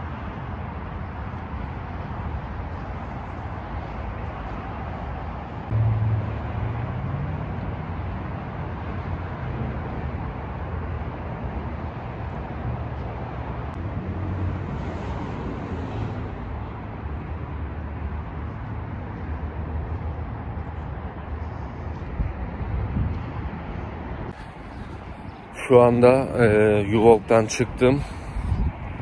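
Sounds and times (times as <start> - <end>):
low traffic rumble: 0.0 - 29.0
passing cars: 0.0 - 29.0.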